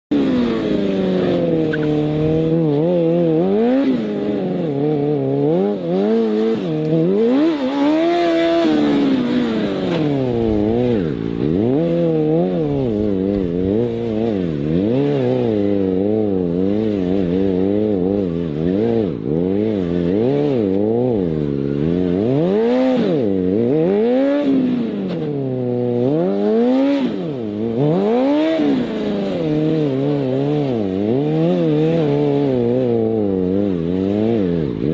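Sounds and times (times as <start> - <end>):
superbike engine revving: 0.1 - 34.9.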